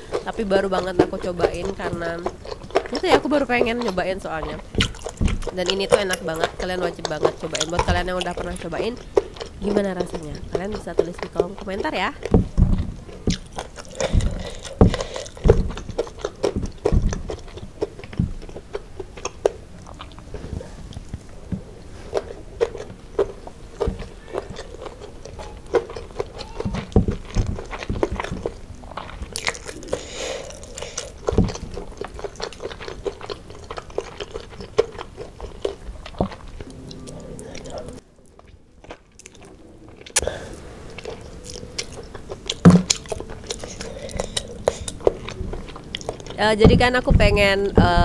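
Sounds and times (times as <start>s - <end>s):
food crunching: 0.0s - 48.0s
mouth chewing food: 0.0s - 48.0s.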